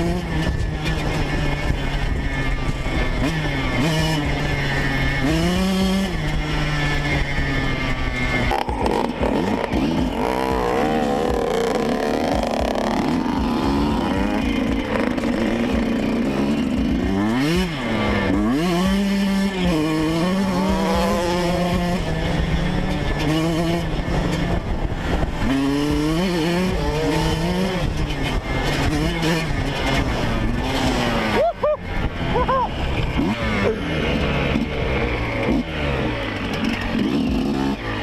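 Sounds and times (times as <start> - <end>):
two-stroke motorbike engine revving: 0.0 - 38.0.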